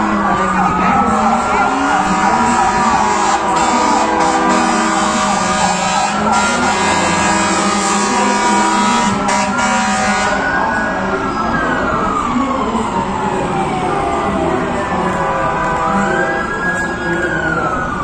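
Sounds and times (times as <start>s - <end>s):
truck air horns blaring: 0.0s - 11.4s, 14.1s - 17.4s
sirens wailing: 0.0s - 18.0s.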